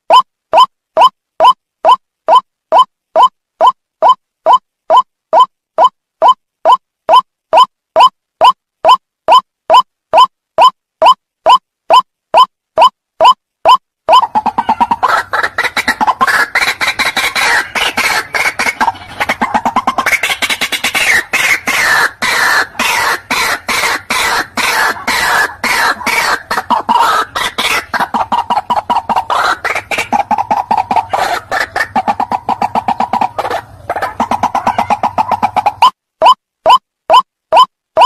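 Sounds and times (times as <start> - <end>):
waterhen croaking calls: 0.1 - 38.0.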